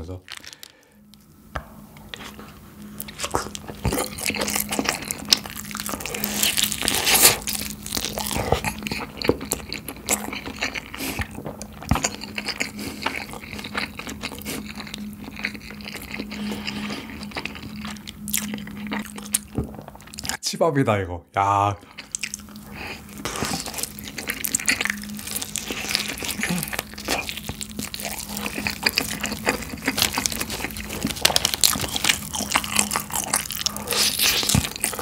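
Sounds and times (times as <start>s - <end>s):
wet mouth sounds: 1.1s - 20.4s, 21.8s - 35.0s
chewing crispy fried chicken: 2.0s - 20.4s, 21.8s - 35.0s.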